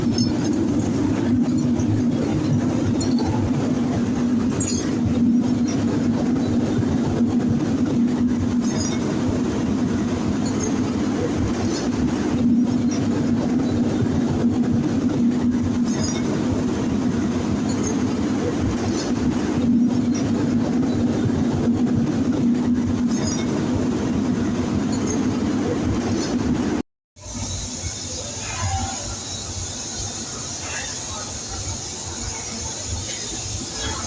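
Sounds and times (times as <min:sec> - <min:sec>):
industrial machinery drone: 0:00.0 - 0:34.0.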